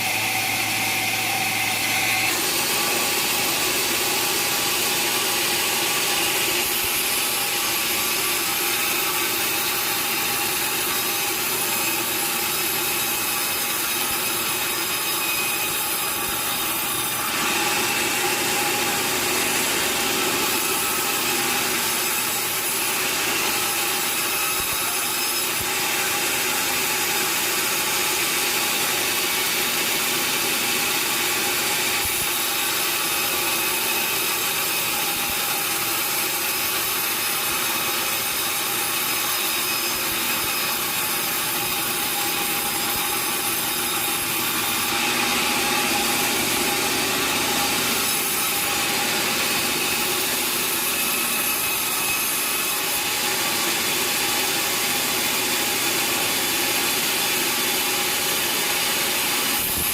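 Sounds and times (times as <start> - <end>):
sawmill saw cutting timber: 0.0 - 59.9.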